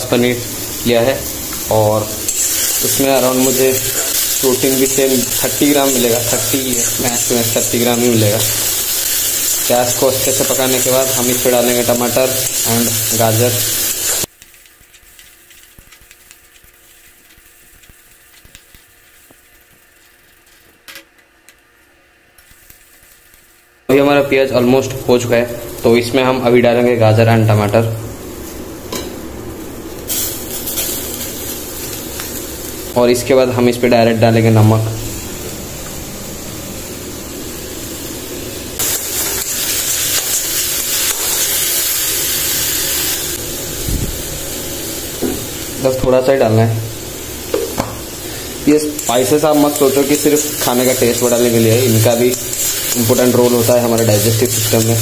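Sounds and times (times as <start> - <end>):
onions sizzling in oil: 0.0 - 20.8, 22.4 - 55.0.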